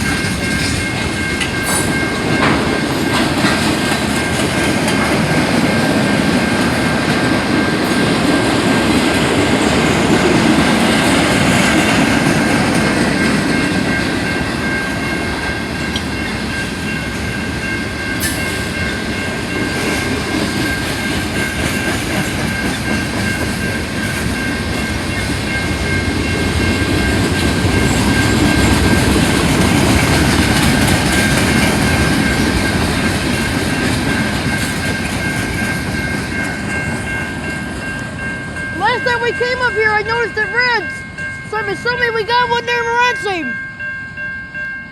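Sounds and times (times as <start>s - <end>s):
wheels clacking over rail joints: 0.0s - 16.9s, 18.1s - 39.1s
train cars rumbling past: 0.0s - 44.9s.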